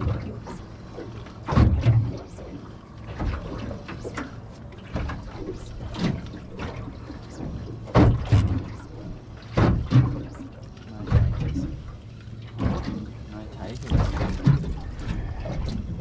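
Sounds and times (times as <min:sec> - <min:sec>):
water slapping against boat hull: 0:00.0 - 0:16.0.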